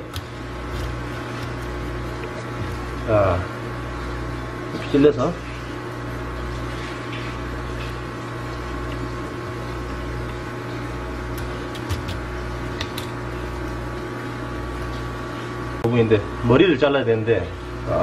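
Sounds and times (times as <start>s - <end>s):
motor humming with low throb: 0.0s - 18.0s.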